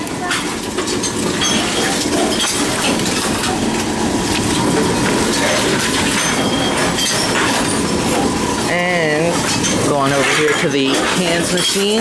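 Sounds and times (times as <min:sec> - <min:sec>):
containers clinking and knocking: 0:00.0 - 0:08.4, 0:09.3 - 0:12.0
vending machine mechanical clatter: 0:00.0 - 0:12.0.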